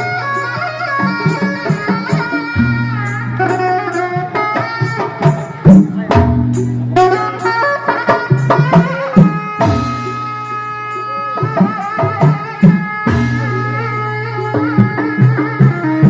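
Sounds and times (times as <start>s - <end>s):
hand drum beats: 0.0s - 16.0s
wind instrument melody: 0.0s - 16.0s.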